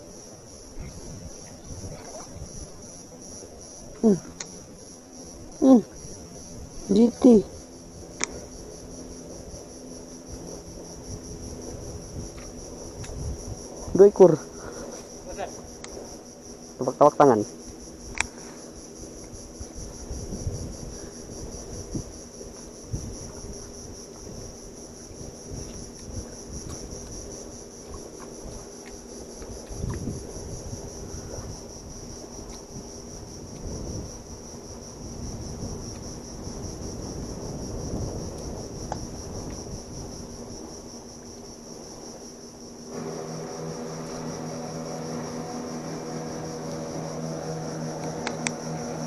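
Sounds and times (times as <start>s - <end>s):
high insect chorus: 0.0s - 49.0s
low mechanical hum: 0.0s - 49.0s.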